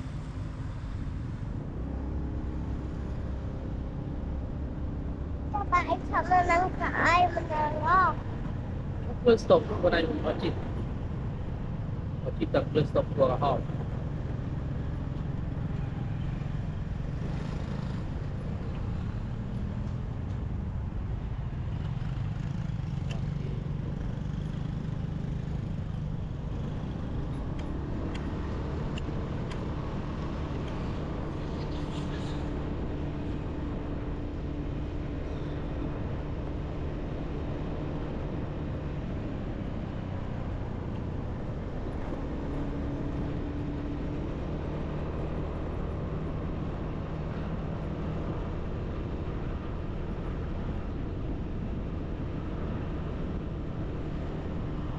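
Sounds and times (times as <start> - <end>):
road and wind noise: 0.0 - 54.9.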